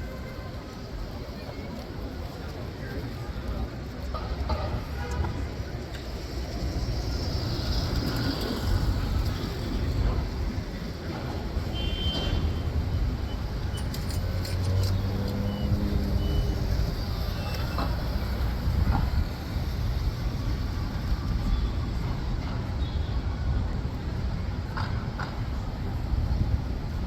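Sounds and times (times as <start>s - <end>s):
rumble of street traffic: 0.0s - 27.0s.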